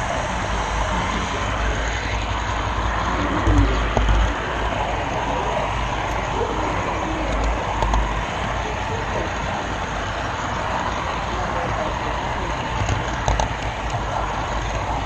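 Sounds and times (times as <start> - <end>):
model train wheels rumbling: 0.0 - 15.0.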